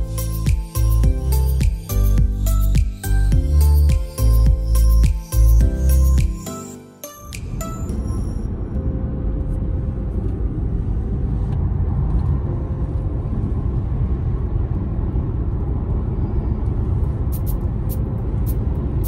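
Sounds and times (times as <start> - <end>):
car road and engine rumble: 0.0 - 6.4, 7.1 - 19.0.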